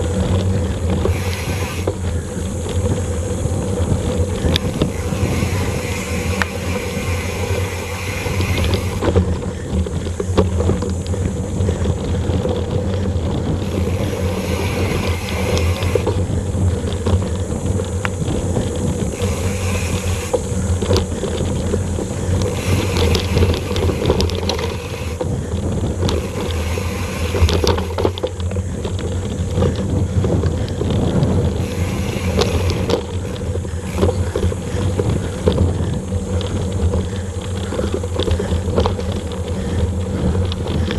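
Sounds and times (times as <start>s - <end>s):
bike clicks and rattles: 0.0s - 40.9s
tyres rumbling on dirt: 0.0s - 40.9s
wind on microphone: 0.0s - 40.9s.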